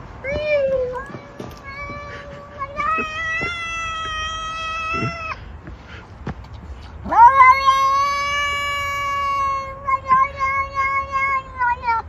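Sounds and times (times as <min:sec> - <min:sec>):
cat yowling: 0:00.3 - 0:05.4, 0:07.1 - 0:12.0.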